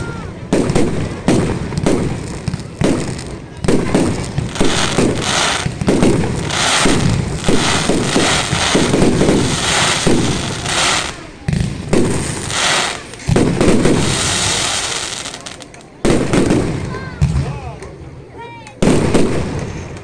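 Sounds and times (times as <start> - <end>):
fireworks banging: 0.0 - 20.0.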